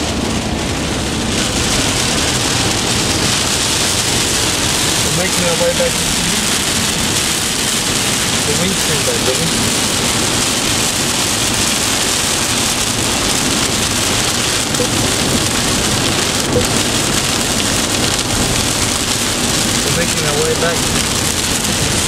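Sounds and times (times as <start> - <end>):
heavy rain on car windscreen: 0.0 - 22.0.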